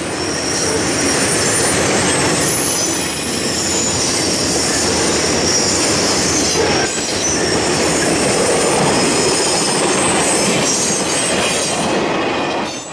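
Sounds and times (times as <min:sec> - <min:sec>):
high-pitched wheel squeal: 0:00.0 - 0:11.7
steel wheels rumbling on rail: 0:00.0 - 0:12.9.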